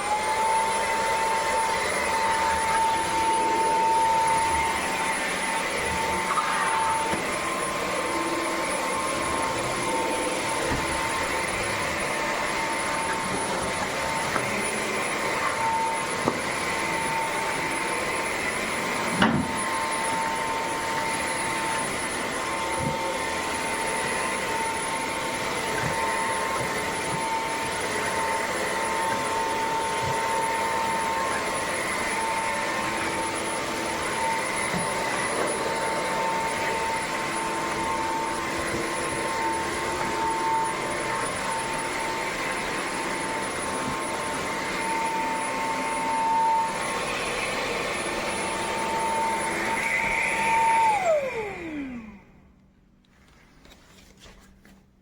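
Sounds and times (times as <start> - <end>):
vacuum motor whine and airflow: 0.0 - 52.5.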